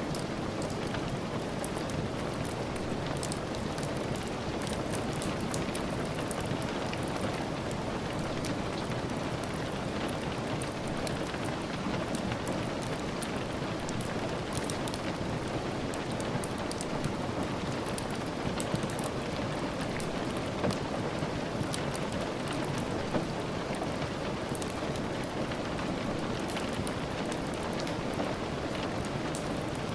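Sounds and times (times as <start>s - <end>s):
steady rain: 0.0s - 29.9s.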